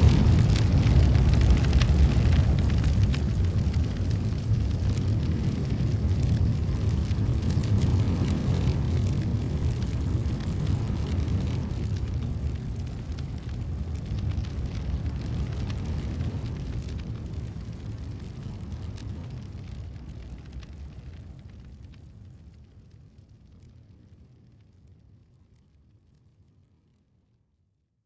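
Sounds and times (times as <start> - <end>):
fire rumbling: 0.0 - 27.0
fire crackling and popping: 0.0 - 27.1.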